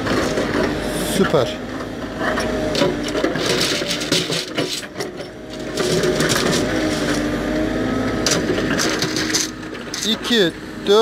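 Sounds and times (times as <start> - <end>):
backhoe engine and hydraulics hum: 0.0 - 11.0.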